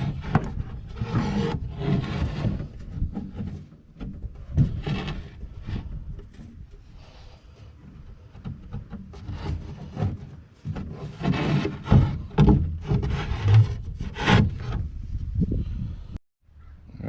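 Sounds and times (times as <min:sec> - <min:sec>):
plywood rubbing and scraping: 0:00.0 - 0:15.7.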